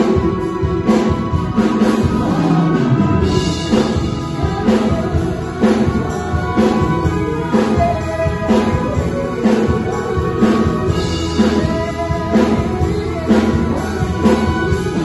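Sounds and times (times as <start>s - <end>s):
drum beats: 0.0s - 15.0s
orchestra playing pop arrangement: 0.0s - 15.0s.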